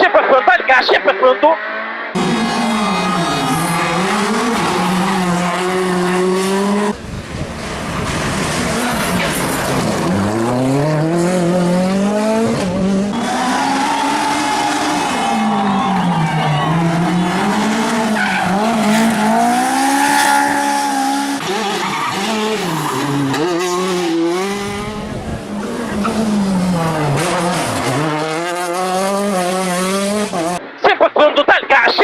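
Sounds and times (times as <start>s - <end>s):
tyres skidding and squealing: 0.0s - 32.0s
rally car engine revving: 1.2s - 30.7s.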